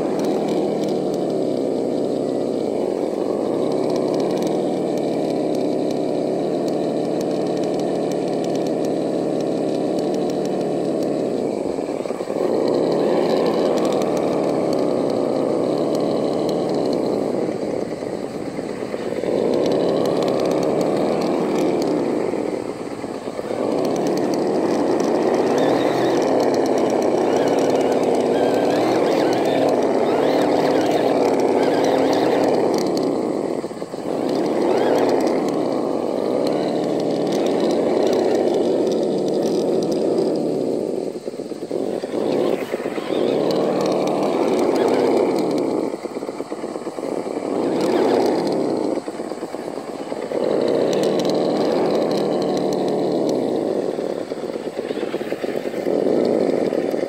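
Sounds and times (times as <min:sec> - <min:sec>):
rc car electric motor whining: 0:00.0 - 0:57.0.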